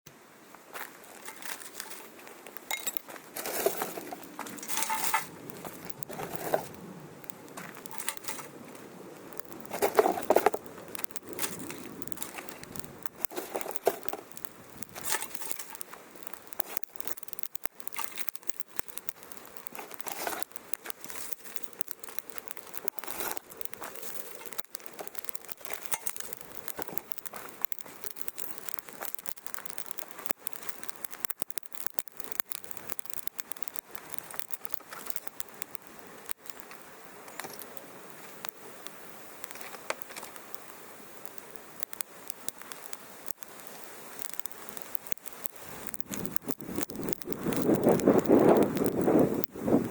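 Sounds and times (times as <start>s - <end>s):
wood fire crackling and popping: 0.5s - 49.9s.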